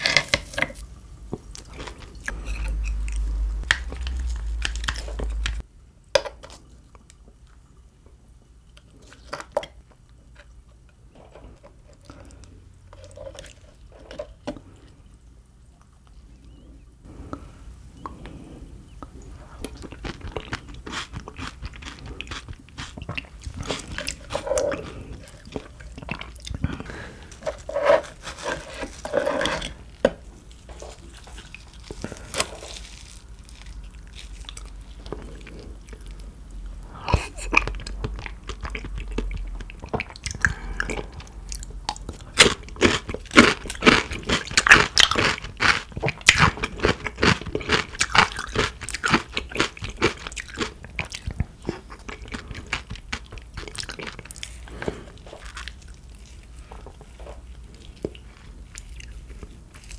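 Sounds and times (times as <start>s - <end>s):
person chewing crunchy food: 0.0s - 5.7s, 8.9s - 15.0s, 18.0s - 59.9s.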